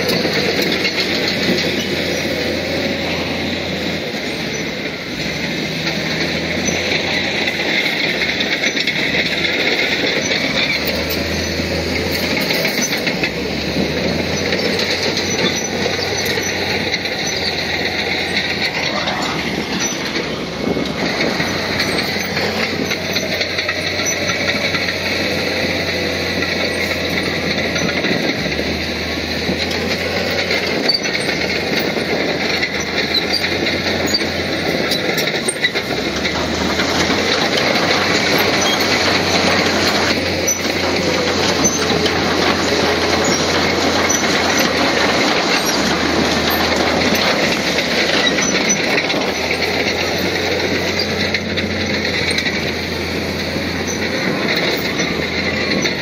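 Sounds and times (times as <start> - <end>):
bulldozer diesel engine: 0.0 - 56.0
steel tracks clattering and squealing: 0.0 - 56.0.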